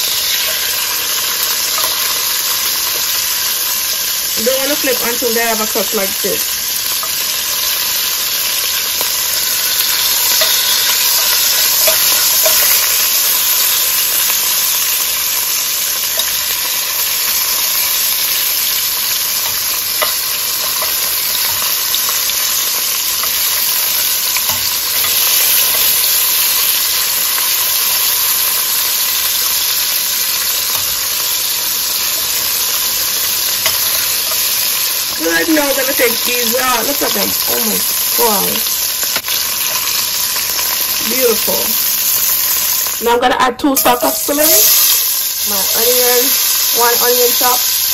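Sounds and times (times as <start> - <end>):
meat sizzling in oil: 0.0 - 47.9.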